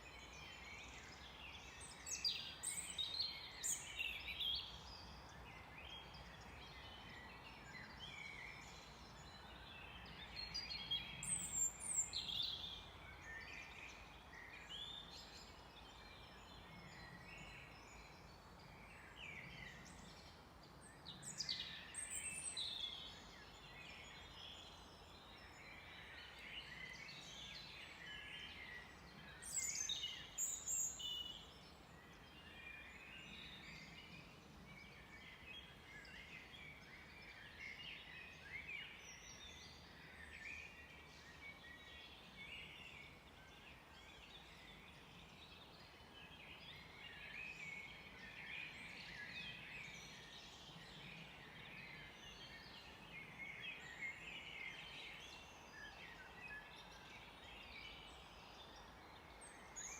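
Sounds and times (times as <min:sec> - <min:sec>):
songbirds chirping and singing: 0:00.1 - 0:59.9.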